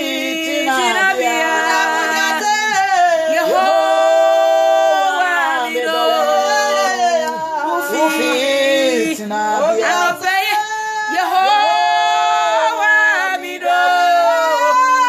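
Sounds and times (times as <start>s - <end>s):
women singing unaccompanied: 0.0s - 15.0s.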